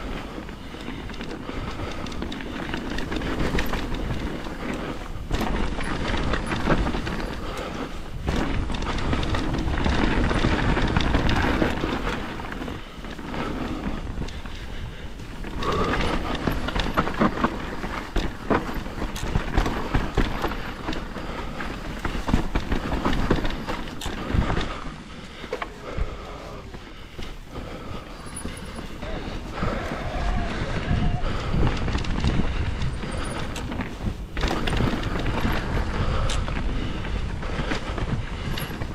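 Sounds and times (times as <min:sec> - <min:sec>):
bike chain and frame rattling: 0:00.0 - 0:38.9
tyres rolling over dirt and rocks: 0:00.0 - 0:38.9.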